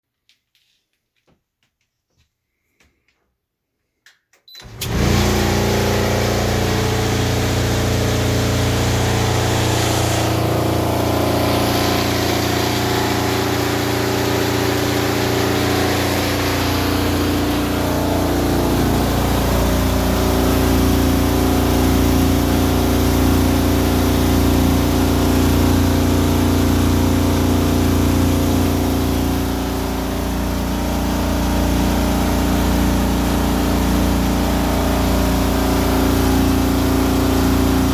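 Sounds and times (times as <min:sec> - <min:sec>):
clothes dryer humming and rumbling: 0:04.5 - 0:37.9.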